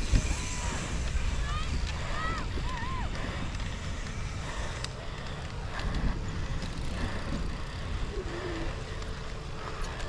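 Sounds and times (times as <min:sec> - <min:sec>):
bike clicks and rattles: 0:00.0 - 0:10.0
bike tyres rumbling on dirt: 0:00.0 - 0:10.0.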